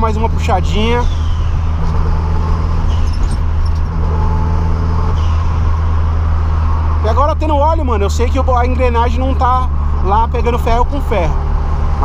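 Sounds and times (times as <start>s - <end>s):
car engine running: 0.0s - 12.0s
gearbox roaring drone: 0.0s - 12.0s.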